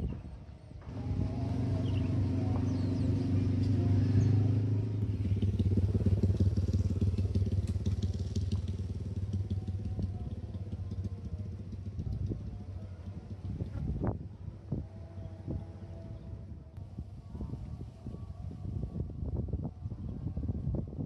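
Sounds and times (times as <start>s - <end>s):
vehicle engine humming: 0.0s - 19.2s.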